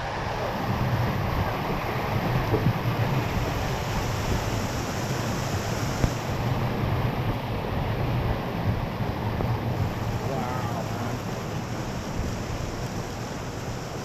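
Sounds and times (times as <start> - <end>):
torrential rain: 0.0 - 14.0
wind buffeting microphone: 0.0 - 14.0.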